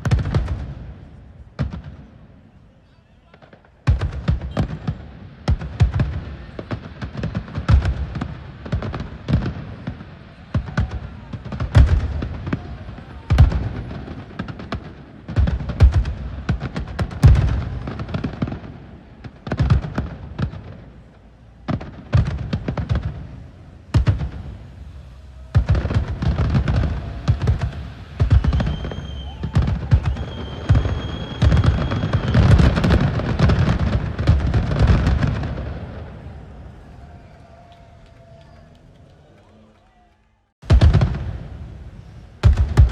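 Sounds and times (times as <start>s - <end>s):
fireworks booming: 0.0s - 39.1s, 40.6s - 42.9s
fireworks rapid bangs and crackling: 0.0s - 39.2s, 40.6s - 42.9s.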